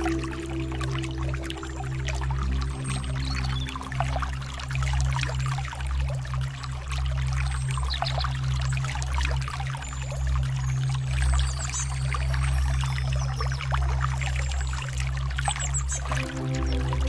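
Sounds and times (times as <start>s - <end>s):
stream water trickling: 0.0s - 17.0s.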